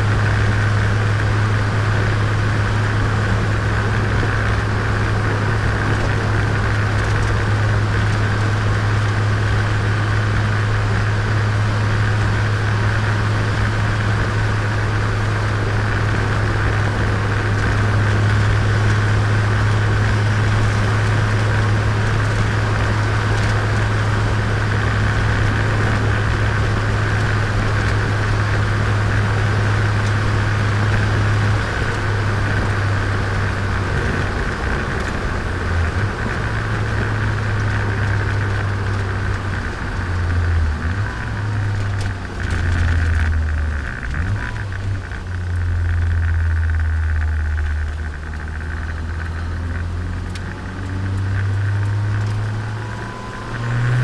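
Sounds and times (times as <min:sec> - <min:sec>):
car engine droning: 0:00.0 - 0:54.0
road noise: 0:00.0 - 0:54.0.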